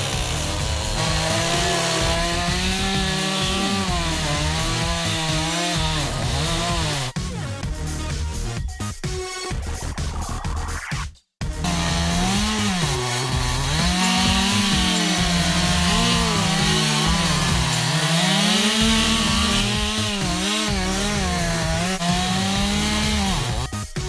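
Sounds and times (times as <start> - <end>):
chainsaw cutting ice: 0.0 - 7.2, 11.6 - 23.8.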